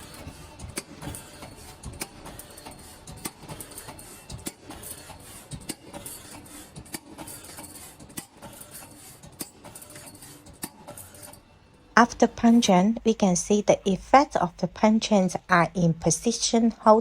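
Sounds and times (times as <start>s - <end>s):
steady mechanical noise: 0.0s - 17.0s.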